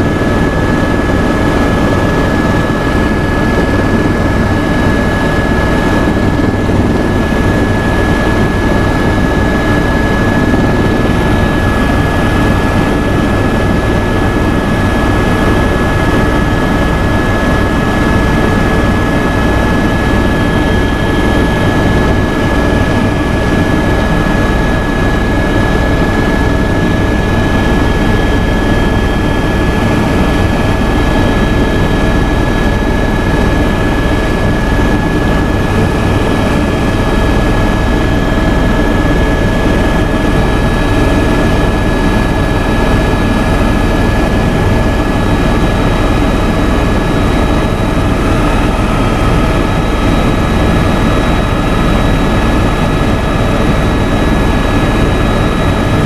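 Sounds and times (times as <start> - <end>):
helicopter engine and rotor drone: 0.0 - 56.0
high engine whine: 0.0 - 56.0.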